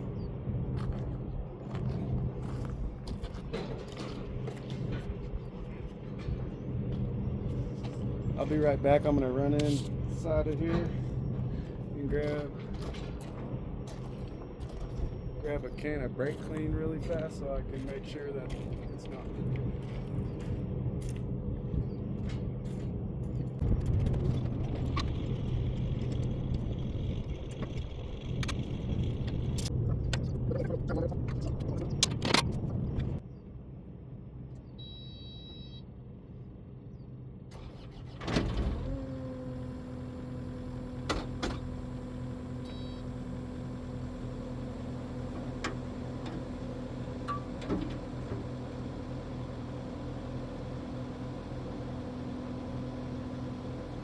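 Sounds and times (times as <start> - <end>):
diesel engine idling: 0.0 - 29.9, 32.6 - 54.0.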